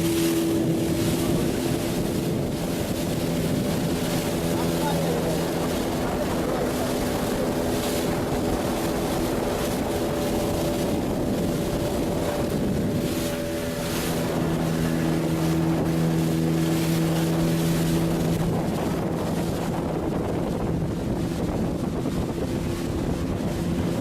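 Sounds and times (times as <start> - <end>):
boat motor running: 0.0 - 24.0.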